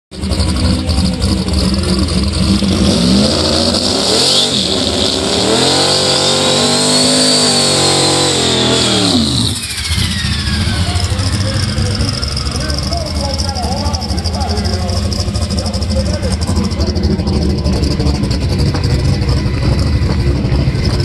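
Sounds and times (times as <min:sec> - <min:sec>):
tires spinning: 0:00.1 - 0:21.0
engine revving high: 0:00.2 - 0:21.0
high whine: 0:00.2 - 0:21.0.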